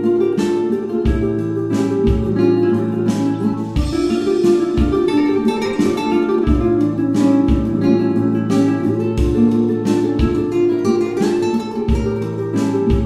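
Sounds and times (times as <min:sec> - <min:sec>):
low beat: 0:00.0 - 0:13.0
plucked acoustic guitar music: 0:00.0 - 0:13.0.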